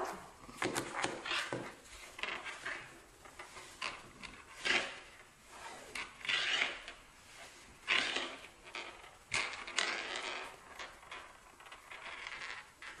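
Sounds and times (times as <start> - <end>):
beads scraping across wooden table: 0.9 - 13.0.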